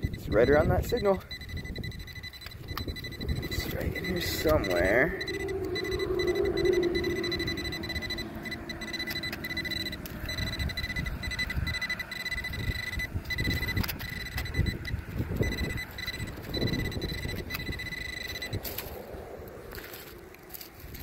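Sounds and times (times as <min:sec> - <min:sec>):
faint high electronic tone: 0:00.0 - 0:20.1
low electronic tone: 0:00.0 - 0:21.0.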